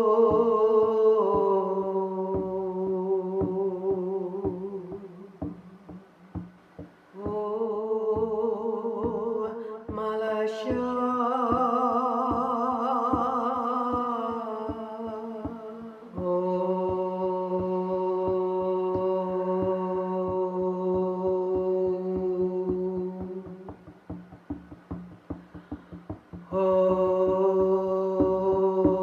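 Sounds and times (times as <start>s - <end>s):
drum beaten steadily: 0.0s - 1.6s, 2.3s - 29.0s
person chanting wordless tones: 0.0s - 29.0s.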